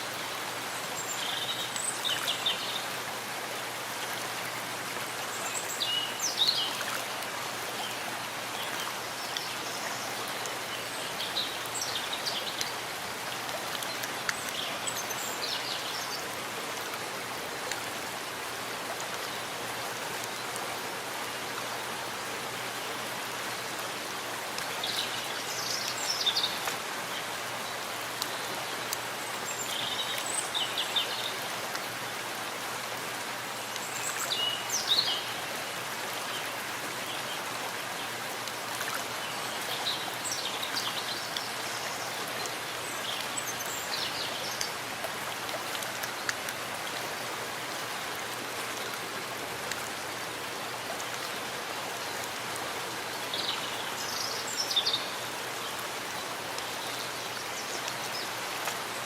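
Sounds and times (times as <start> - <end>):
steady rain in a forest: 0.0 - 59.0.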